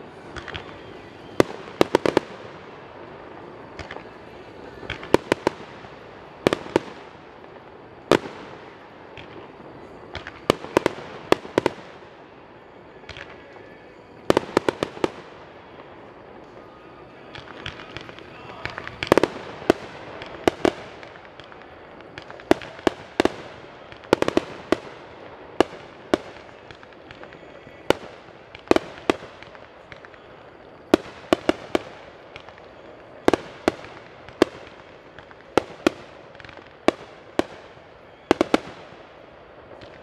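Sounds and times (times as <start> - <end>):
fireworks bursting with bangs: 0.0 - 40.0.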